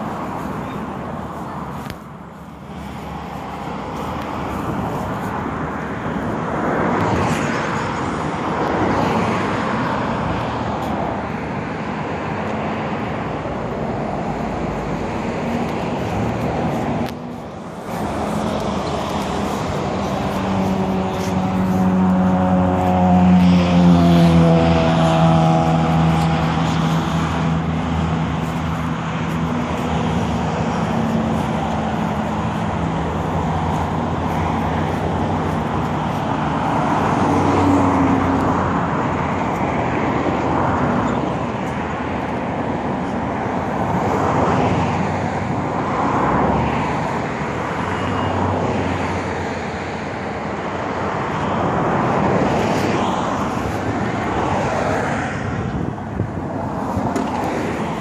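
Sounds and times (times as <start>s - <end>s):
cars passing: 0.0s - 58.0s
roadside rumble: 0.0s - 58.0s.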